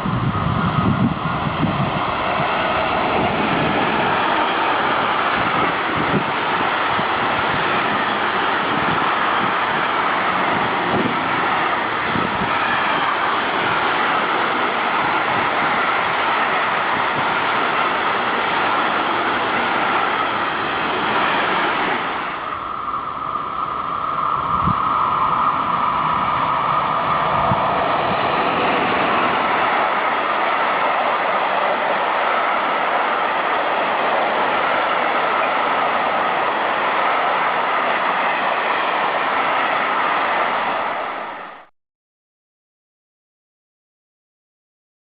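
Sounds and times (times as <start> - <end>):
train passing: 0.0 - 41.7.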